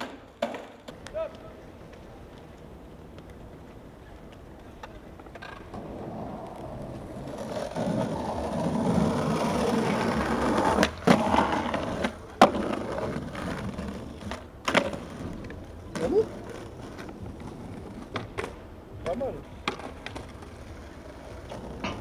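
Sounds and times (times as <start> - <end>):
skateboard clacks: 0.0 - 22.0
skateboard wheels rolling on tiles: 0.0 - 22.0.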